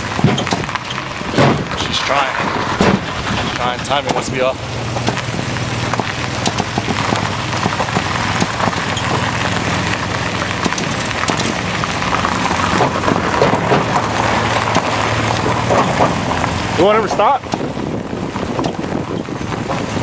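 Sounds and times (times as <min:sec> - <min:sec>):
engine crackling and popping: 0:00.0 - 0:20.0
rotary engine droning: 0:00.0 - 0:20.0.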